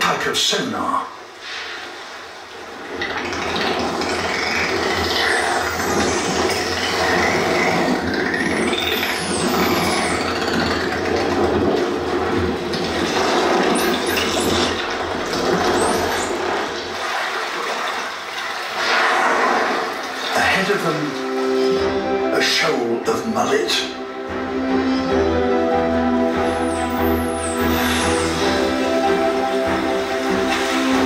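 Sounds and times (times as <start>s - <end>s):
bubbling water wash: 1.3s - 23.2s, 24.0s - 31.0s.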